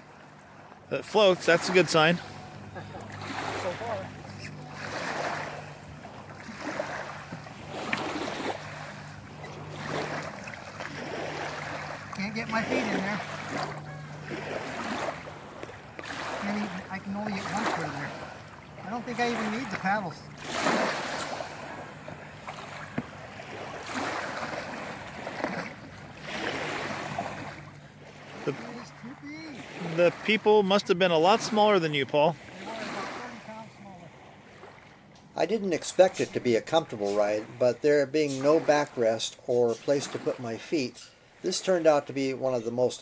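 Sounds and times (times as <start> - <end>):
sharp water splashes: 0.0 - 42.0
small waves lapping: 0.0 - 43.0.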